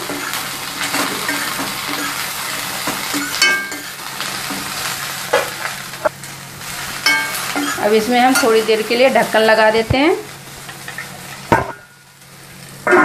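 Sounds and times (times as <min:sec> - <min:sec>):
okra sizzling in hot oil: 0:00.0 - 0:13.0.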